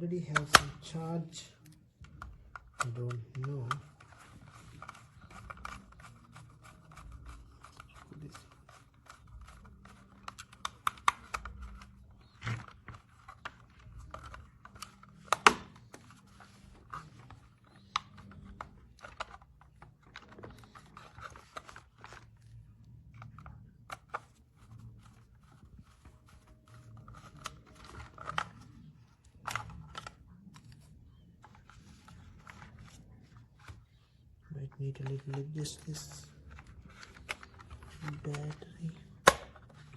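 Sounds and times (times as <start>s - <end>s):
hands handling plastic toy: 0.1s - 39.9s.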